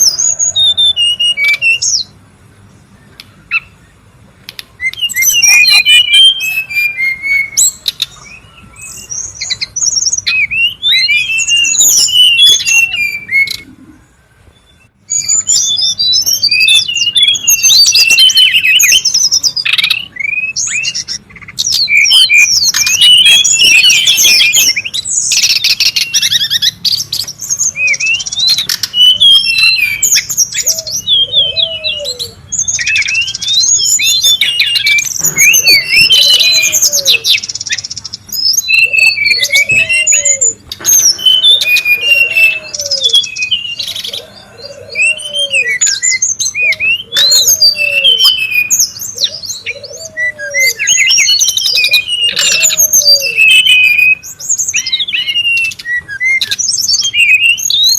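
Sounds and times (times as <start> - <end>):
birds chirping and trilling: 0.0 - 57.9.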